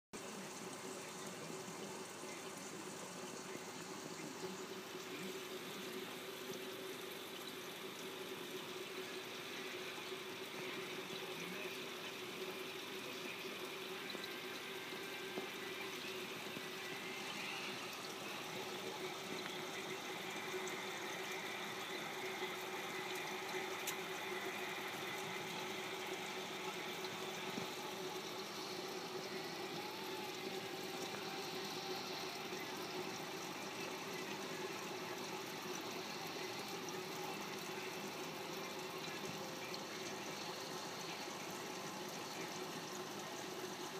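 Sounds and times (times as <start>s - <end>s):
faint steady hum: 0.2s - 43.9s
water trickling: 0.2s - 43.9s.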